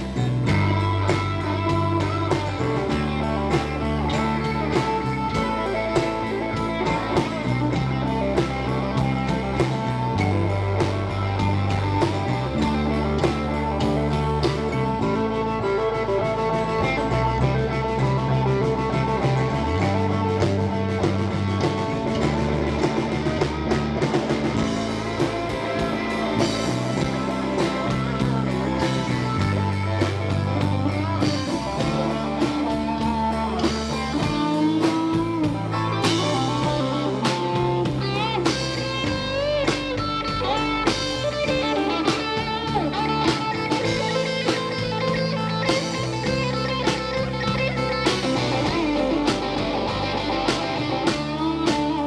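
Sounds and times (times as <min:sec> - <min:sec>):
bass guitar: 0:00.0 - 0:52.0
drum kit: 0:00.0 - 0:52.0
electric guitar lead: 0:00.0 - 0:52.0.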